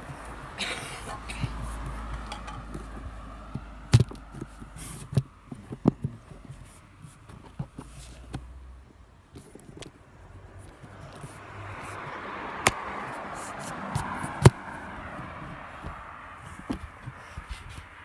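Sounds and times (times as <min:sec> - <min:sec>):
phone handling knocks and rubbing: 0:00.0 - 0:08.4, 0:10.7 - 0:18.0.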